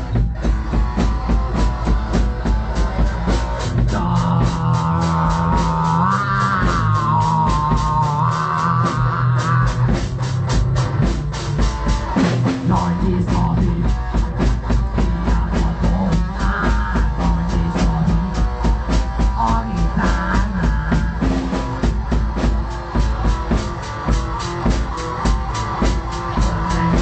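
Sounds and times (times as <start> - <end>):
fast drum kit beating: 0.0 - 27.0
guitar: 0.0 - 27.0
low bass line: 0.0 - 27.0.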